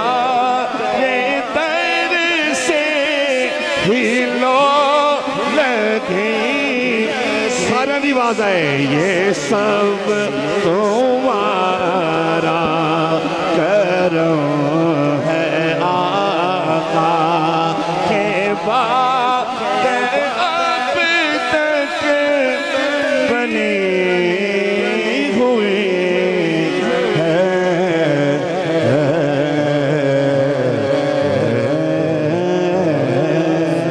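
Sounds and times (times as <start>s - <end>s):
man singing devotional poem: 0.0s - 33.9s.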